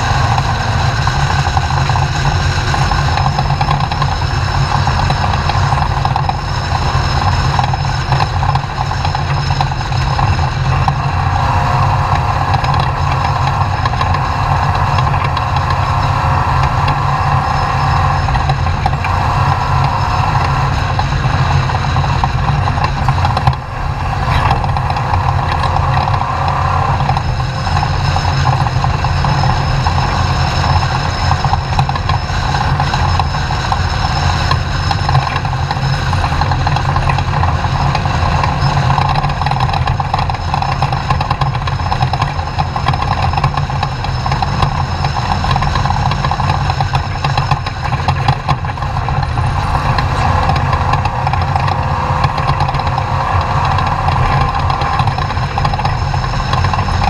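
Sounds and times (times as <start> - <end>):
truck engine running loudly: 0.0 - 57.0.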